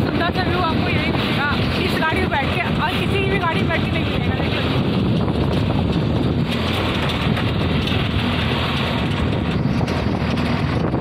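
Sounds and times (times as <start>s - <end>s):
vehicle running and road noise: 0.0s - 11.0s
wind on microphone: 0.0s - 11.0s.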